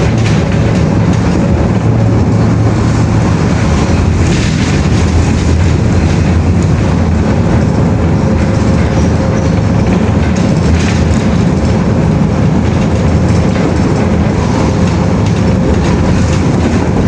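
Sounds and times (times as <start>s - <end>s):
mechanical rumble with hum: 0.0s - 17.0s.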